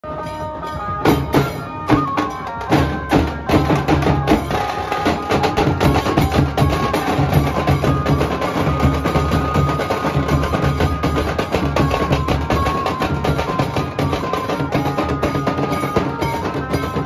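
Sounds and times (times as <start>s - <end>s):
barrel drums beaten with sticks: 1.0s - 17.0s.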